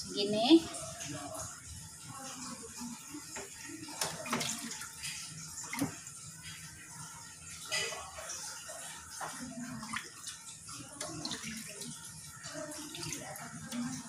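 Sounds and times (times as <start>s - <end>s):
broth sloshing in a frying pan: 0.2s - 14.0s.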